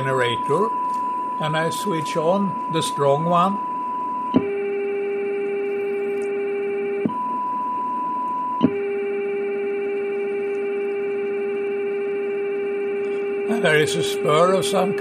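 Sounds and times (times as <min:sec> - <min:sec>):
low buzzy test tone: 0:00.0 - 0:15.0.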